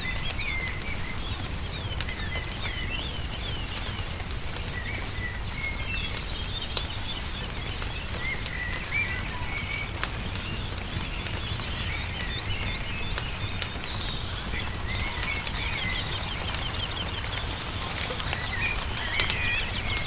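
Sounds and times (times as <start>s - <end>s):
songbirds chirping: 0.0s - 20.0s
wood fire crackling and popping: 0.0s - 20.0s.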